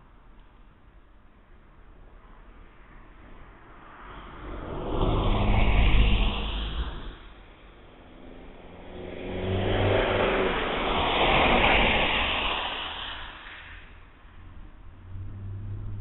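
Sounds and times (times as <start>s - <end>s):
car passing by: 2.3s - 16.0s.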